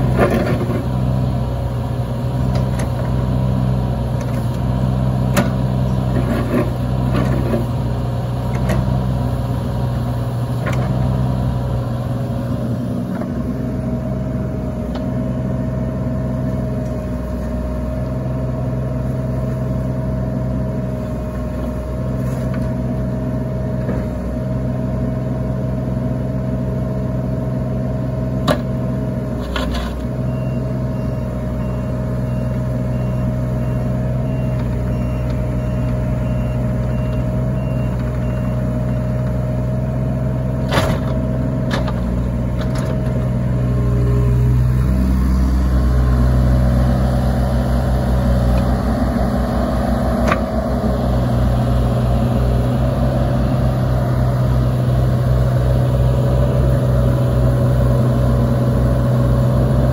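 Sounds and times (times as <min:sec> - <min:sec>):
diesel engine hum: 0:00.0 - 0:59.9.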